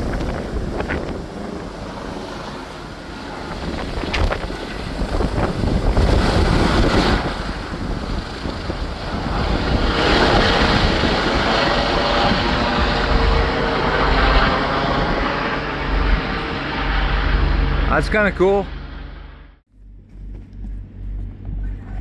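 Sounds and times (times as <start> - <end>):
wind buffeting microphone: 0.0 - 17.9
helicopter running: 0.0 - 22.0.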